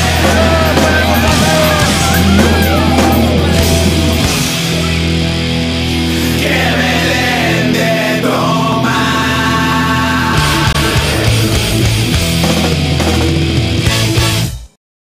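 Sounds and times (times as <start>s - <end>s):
loud heavy rock music: 0.0s - 14.8s.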